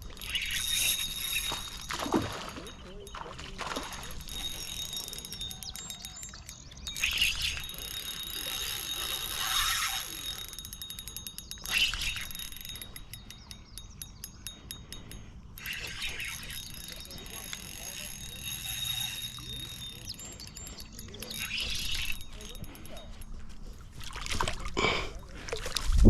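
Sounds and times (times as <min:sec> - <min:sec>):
fishing reel clicking: 0:00.0 - 0:23.6.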